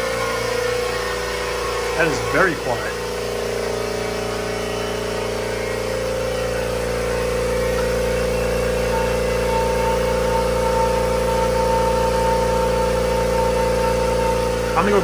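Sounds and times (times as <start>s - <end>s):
air compressor humming: 0.0s - 15.0s
thin high whine: 0.0s - 15.0s.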